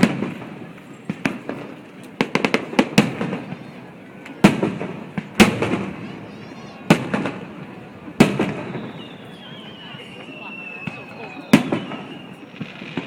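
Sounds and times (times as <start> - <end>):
fireworks booming: 0.0 - 13.0
fireworks cracking: 0.0 - 13.0.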